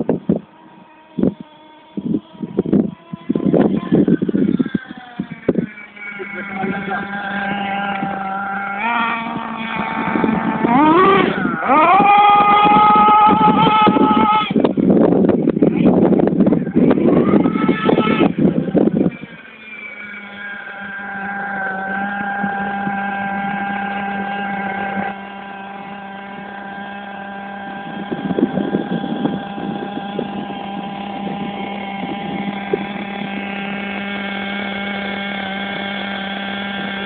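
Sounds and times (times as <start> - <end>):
small model engine buzzing: 0.0 - 37.0.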